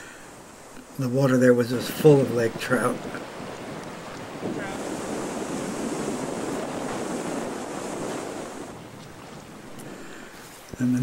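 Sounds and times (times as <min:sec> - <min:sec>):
water rushing in river rapid: 0:00.0 - 0:10.8.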